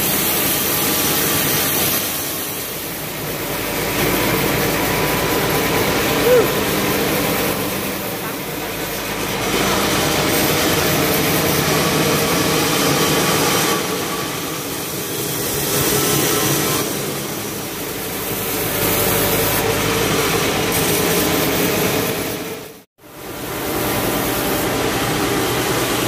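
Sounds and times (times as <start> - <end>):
band saw cutting log: 0.0 - 22.7.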